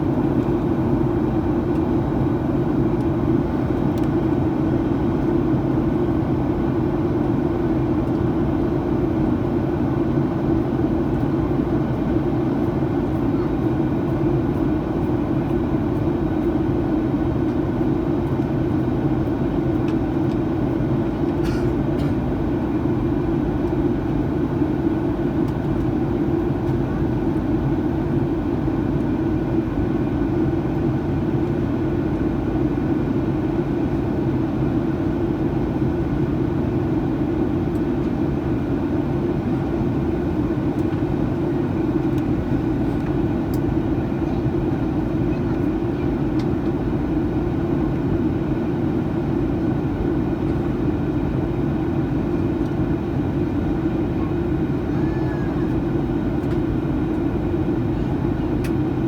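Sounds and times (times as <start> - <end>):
airflow in aircraft cabin: 0.0 - 59.0
jet engines droning: 0.0 - 59.0.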